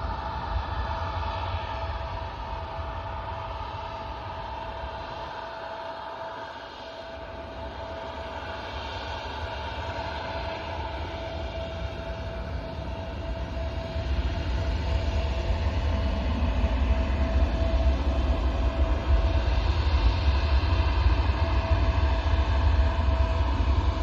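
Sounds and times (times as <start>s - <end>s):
jet engine whine: 0.0s - 24.0s
jet engines deep rumble: 0.0s - 24.0s.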